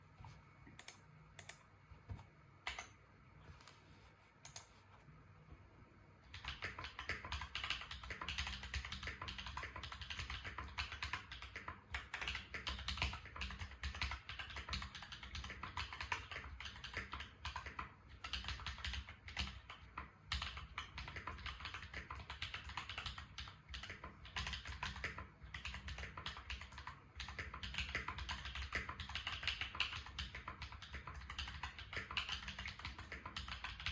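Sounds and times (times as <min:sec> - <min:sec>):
typing on mechanical keyboard: 0:06.3 - 0:33.9.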